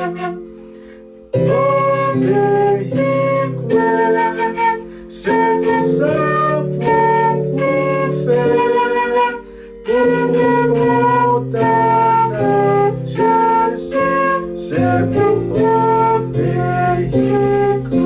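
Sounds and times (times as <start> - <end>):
flute playing slow melody: 0.0 - 18.0
sustained accompanying chords: 0.0 - 18.0.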